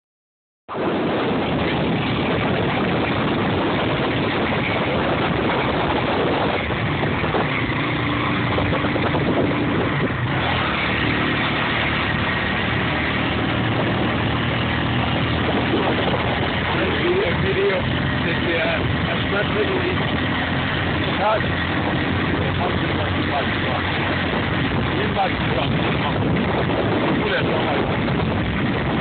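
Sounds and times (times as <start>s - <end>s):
wind and road noise: 0.7s - 29.0s
motorcycle engine running: 1.2s - 29.0s.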